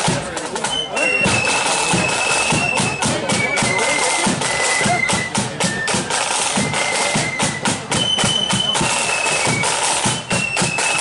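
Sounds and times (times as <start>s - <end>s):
flute melody: 0.0s - 11.0s
snare drum beats: 0.0s - 11.0s.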